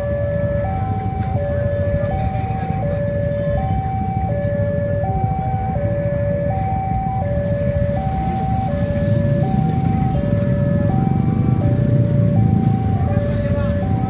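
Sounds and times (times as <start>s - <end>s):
level crossing two-tone alarm: 0.0s - 14.0s
low rumble of engines: 0.0s - 14.0s.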